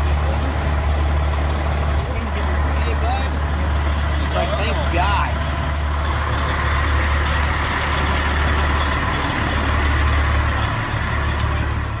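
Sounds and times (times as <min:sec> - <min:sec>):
large vehicle engine idling: 0:00.0 - 0:12.0.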